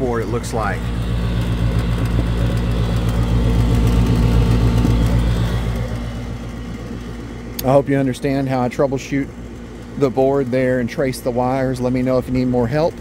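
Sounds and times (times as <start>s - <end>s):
gas burners rumbling: 0.0s - 13.0s
inducer motor humming: 0.0s - 13.0s.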